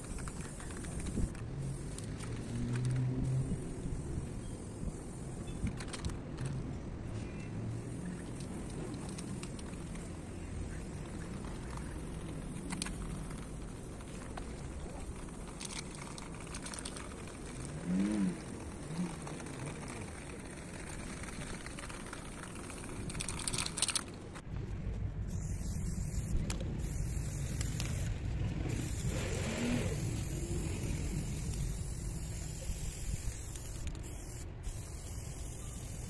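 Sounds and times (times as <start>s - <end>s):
spray-paint can hissing: 0.0s - 5.7s, 7.8s - 24.0s, 25.3s - 28.1s, 28.7s - 36.0s
low outdoor rumble: 0.0s - 36.0s.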